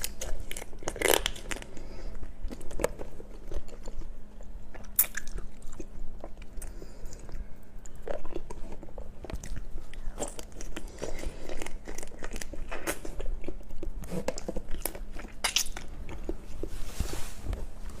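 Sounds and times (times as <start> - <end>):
chewing crunchy shrimp: 0.0 - 16.7.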